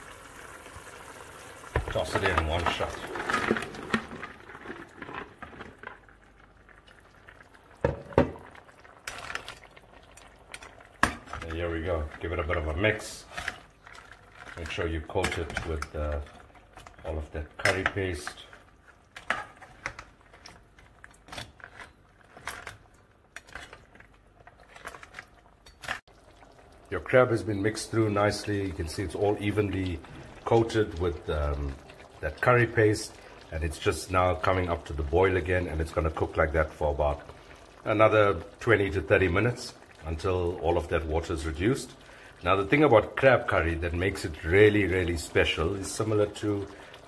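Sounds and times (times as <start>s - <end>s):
curry simmering in a pot: 0.0s - 47.0s.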